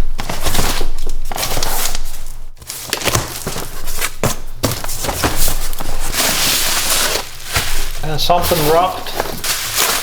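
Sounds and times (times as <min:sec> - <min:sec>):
packing material rustling: 0:00.2 - 0:10.0.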